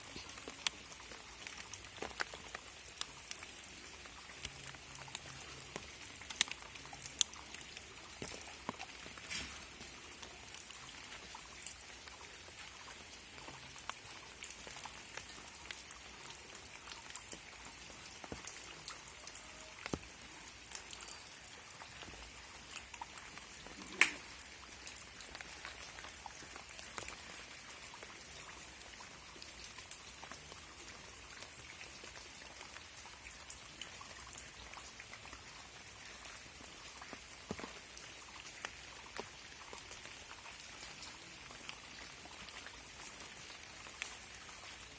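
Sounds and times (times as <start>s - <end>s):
raindrops ticking on surfaces: 0.0s - 44.9s.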